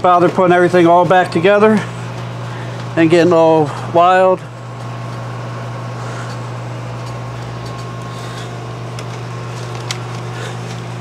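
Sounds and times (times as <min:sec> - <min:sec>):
computer fans humming: 0:00.0 - 0:11.0.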